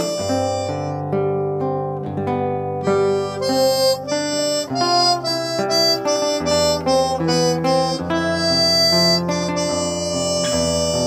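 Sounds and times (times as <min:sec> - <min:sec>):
acoustic guitar: 0:00.0 - 0:11.0
harmonica melody: 0:00.0 - 0:11.0.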